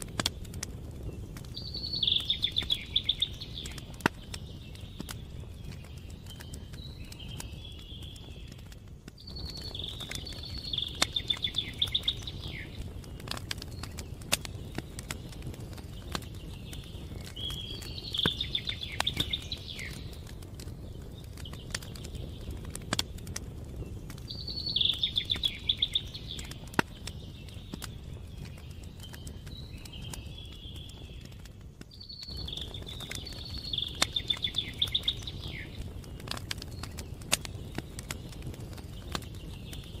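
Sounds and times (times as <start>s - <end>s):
campfire crackling and popping: 0.0s - 40.0s
songbird singing: 0.0s - 40.0s.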